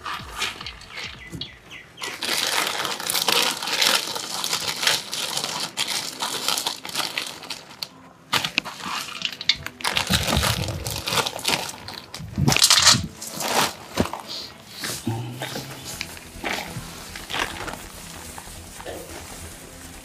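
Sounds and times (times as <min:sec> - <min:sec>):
dry straw rustling: 0:00.0 - 0:20.0
plastic bag crinkling: 0:00.0 - 0:20.0.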